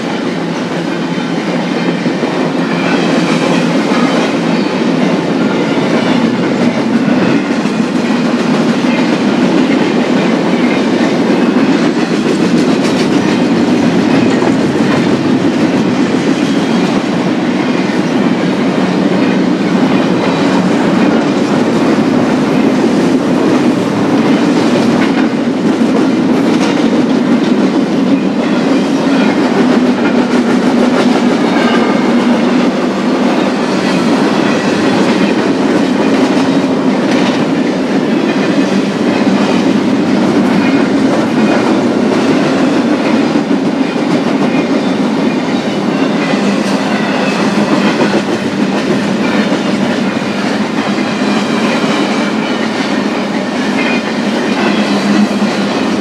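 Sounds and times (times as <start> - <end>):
train cars rolling on rails: 0.0 - 56.0.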